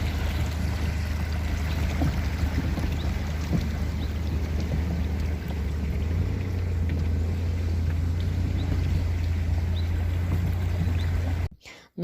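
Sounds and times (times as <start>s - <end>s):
car engine and tyres rumbling: 0.0s - 11.5s
water hissing: 0.0s - 11.5s.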